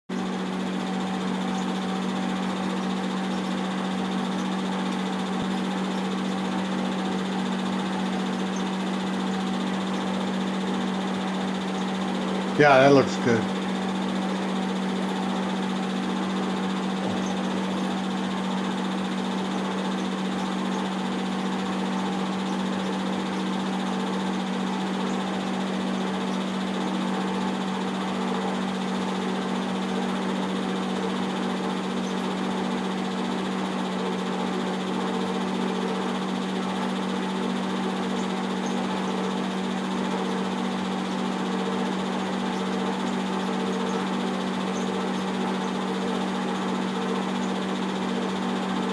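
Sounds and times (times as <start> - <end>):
film projector humming: 0.1 - 48.9.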